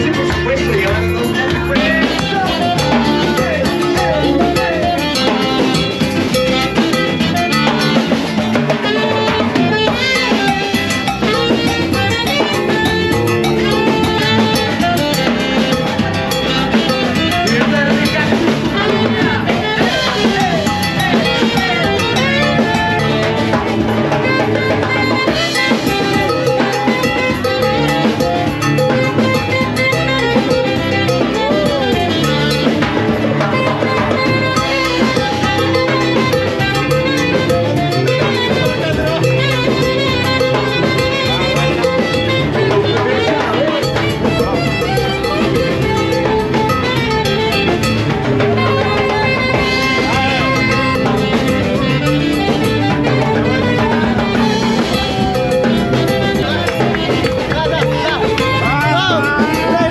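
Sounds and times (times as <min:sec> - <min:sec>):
live latin dance band: 0:00.0 - 0:59.9
steady drum beat: 0:00.0 - 0:59.9.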